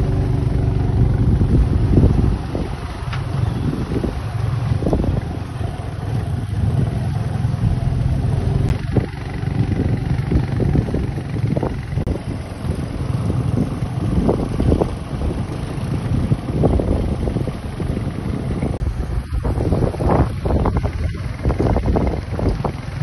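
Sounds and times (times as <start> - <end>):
small motorcycle engine: 0.0 - 23.0
wind on microphone: 0.0 - 23.0.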